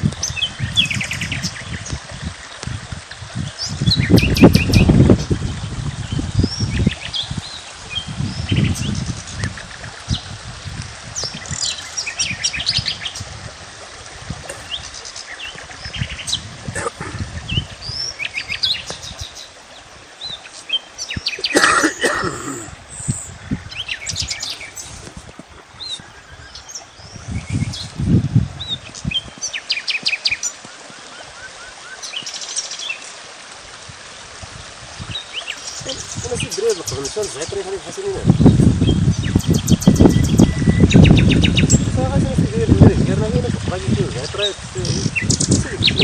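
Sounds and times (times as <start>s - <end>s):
birds chirping and trilling: 0.2s - 2.0s, 3.4s - 10.4s, 11.2s - 13.3s, 14.5s - 25.1s, 25.7s - 33.0s, 35.0s - 42.9s, 43.6s - 46.0s.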